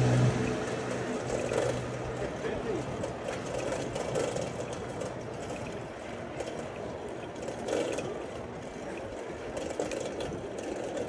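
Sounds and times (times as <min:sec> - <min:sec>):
bicycle tyres rumbling: 0:00.0 - 0:11.0
bike mechanism clicks and rattles: 0:00.8 - 0:11.0.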